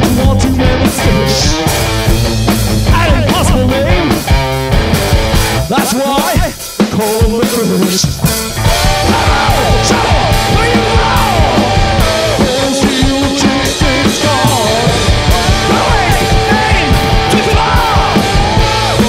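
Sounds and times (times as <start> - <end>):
fast drum beat: 0.0 - 19.0
rock band playing: 0.0 - 19.0.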